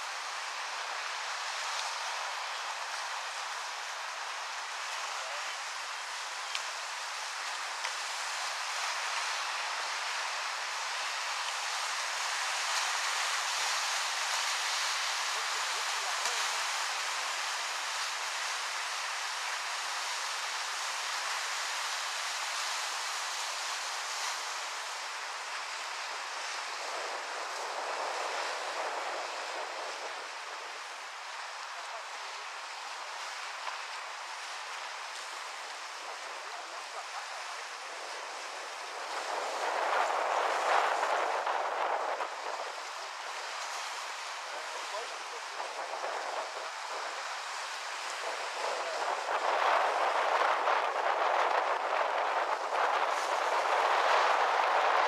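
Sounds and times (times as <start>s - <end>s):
sea surf washing on shore: 0.0s - 55.0s.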